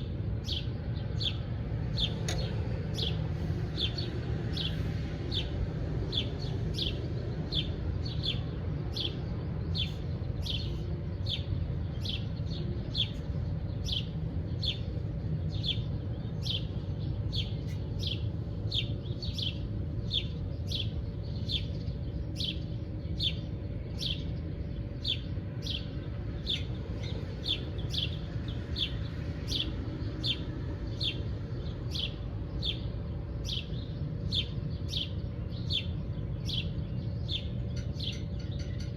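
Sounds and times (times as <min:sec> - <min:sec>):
faint steady hum: 0:00.0 - 0:38.9
steady low rumble: 0:00.0 - 0:38.9
bird chirping: 0:00.3 - 0:38.9.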